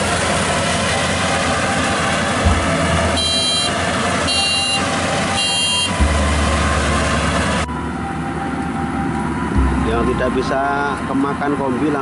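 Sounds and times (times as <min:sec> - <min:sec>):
harvester engine drone: 0:00.0 - 0:12.0.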